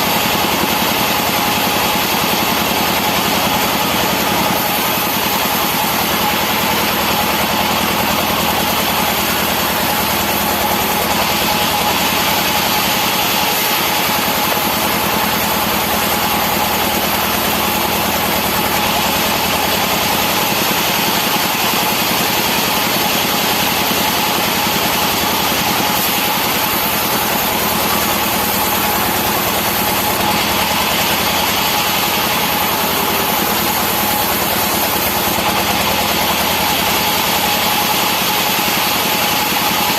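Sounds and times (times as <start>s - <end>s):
saw blade cutting wood: 0.0s - 39.9s
sawmill machinery running: 0.0s - 39.9s.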